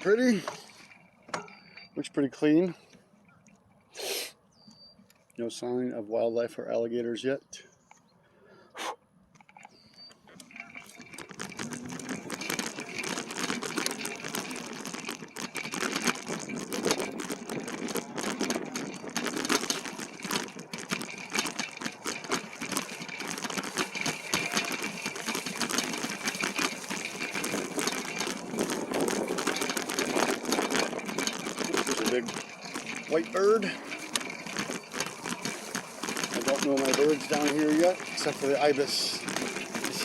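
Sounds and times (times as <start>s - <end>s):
bike rattling and clicking: 0.0s - 3.9s, 9.3s - 40.0s.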